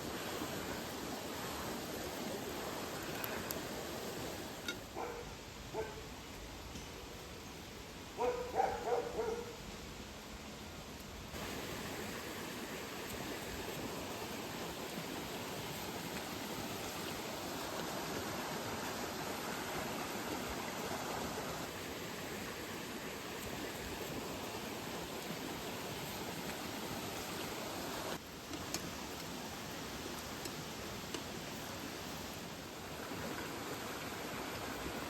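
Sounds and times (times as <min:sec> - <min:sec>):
water rushing: 0:00.0 - 0:35.0.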